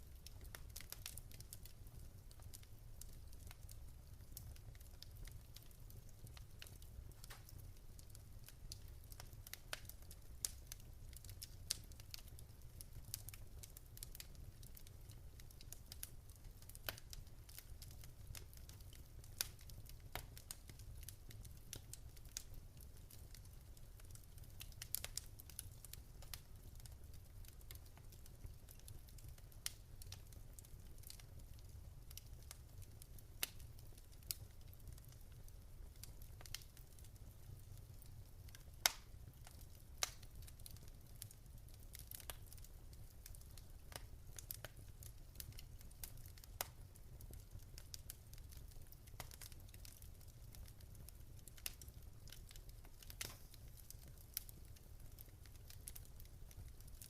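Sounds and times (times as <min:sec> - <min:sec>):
low rumble of burning: 0:00.0 - 0:57.0
wood fire crackling: 0:00.0 - 0:57.0.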